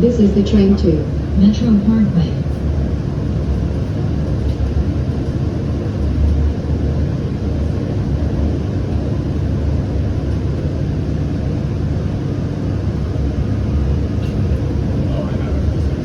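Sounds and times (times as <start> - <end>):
rail car rolling on rails: 0.0 - 16.0.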